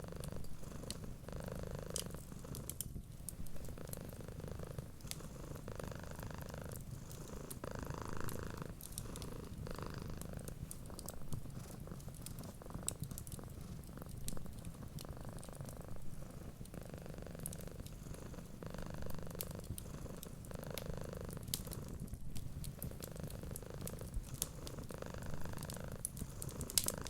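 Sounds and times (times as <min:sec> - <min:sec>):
cat purring: 0:00.0 - 0:27.0
wood fire crackling: 0:00.0 - 0:27.0.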